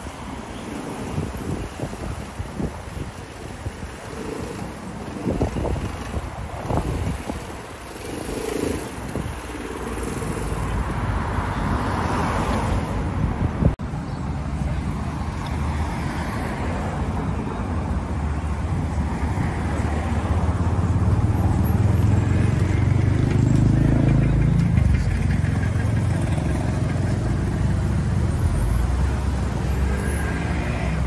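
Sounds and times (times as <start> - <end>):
engine rumbling: 0.8 - 31.0.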